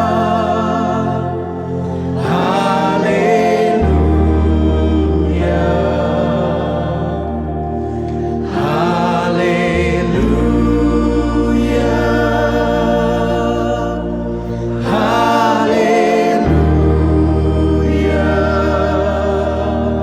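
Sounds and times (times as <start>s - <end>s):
choir singing long held notes: 0.0s - 20.0s
sustained low accompaniment: 0.0s - 20.0s.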